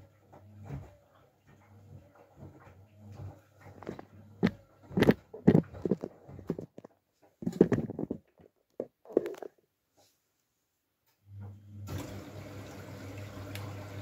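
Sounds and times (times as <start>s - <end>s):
washing machine motor hum: 0.0s - 8.5s, 11.2s - 14.0s.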